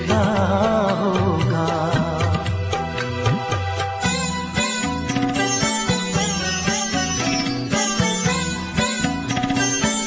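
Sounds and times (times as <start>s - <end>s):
instrumental song melody: 0.0s - 10.0s.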